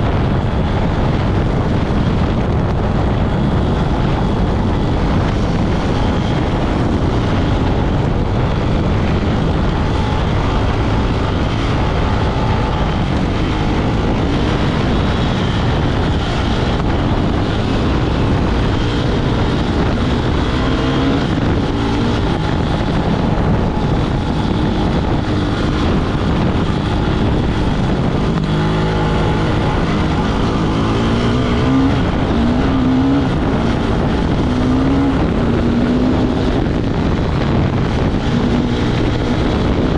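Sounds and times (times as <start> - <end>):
heavy continuous rumble: 0.0 - 39.9
off-road motorcycle engine revving: 0.0 - 39.9.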